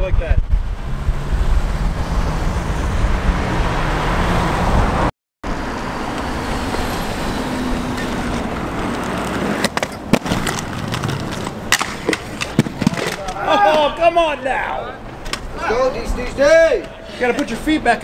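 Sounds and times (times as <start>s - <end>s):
city road traffic: 0.0s - 18.0s.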